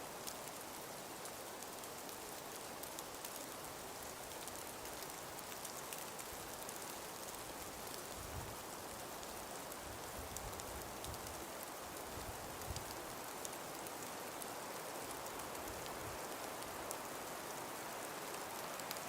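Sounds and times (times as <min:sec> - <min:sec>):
soft breeze hiss: 0:00.0 - 0:19.0
fine crackling ticks: 0:00.2 - 0:19.0.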